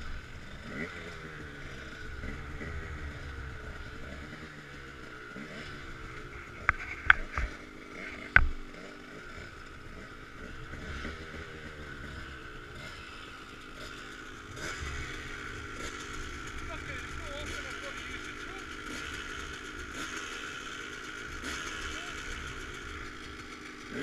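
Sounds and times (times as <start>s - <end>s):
dirt bike engines idling and revving: 0.0s - 24.0s.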